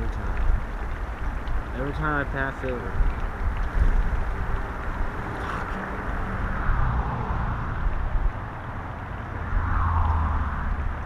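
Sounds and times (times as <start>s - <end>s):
river flowing: 0.0s - 11.0s
wind buffeting microphone: 0.0s - 11.0s.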